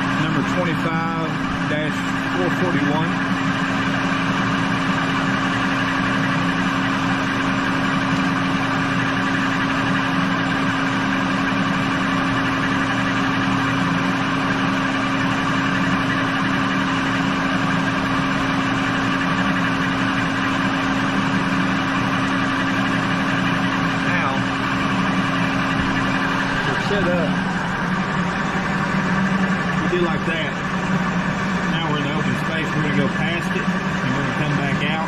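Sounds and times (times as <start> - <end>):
lathe humming: 0.0 - 35.0.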